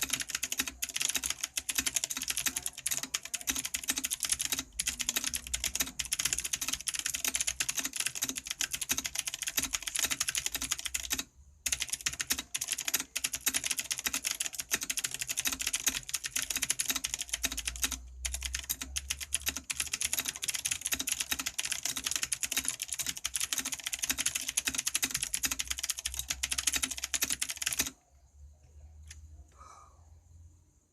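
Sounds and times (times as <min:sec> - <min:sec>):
mechanical keyboard typing: 0:00.0 - 0:28.0.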